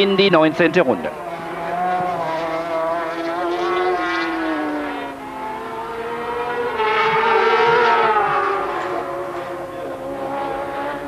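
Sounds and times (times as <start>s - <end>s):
racing engines at high revs: 0.0s - 11.0s.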